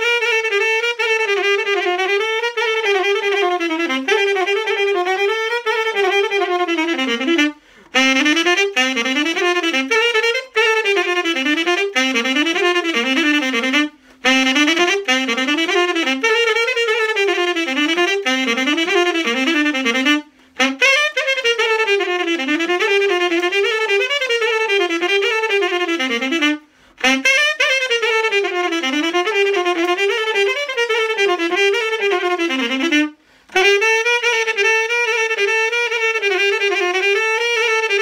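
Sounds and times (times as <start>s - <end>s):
solo saxophone folk tune: 0.0s - 38.0s.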